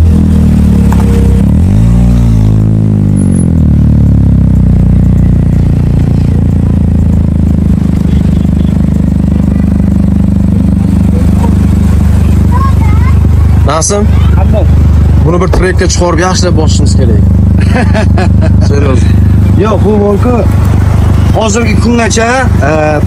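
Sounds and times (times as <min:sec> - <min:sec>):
car engine and exhaust revving: 0:00.0 - 0:23.0.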